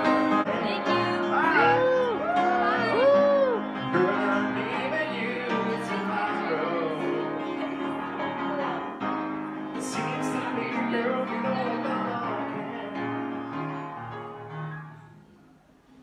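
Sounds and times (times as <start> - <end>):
pianist singing: 0.0 - 15.0
upright piano playing: 0.0 - 15.2.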